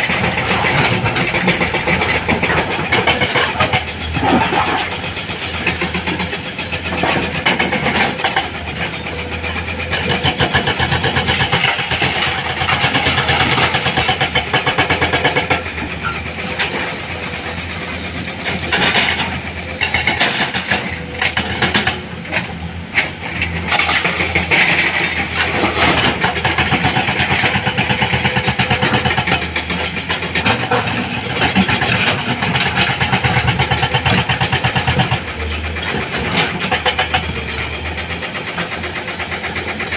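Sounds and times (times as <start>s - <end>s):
heavy diesel engine chugging: 0.0s - 39.9s.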